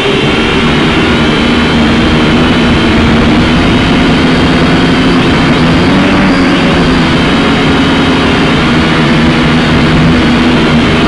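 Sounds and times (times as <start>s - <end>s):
quadcopter motors whining: 0.0s - 11.0s
wind rumble on microphone: 0.0s - 11.0s.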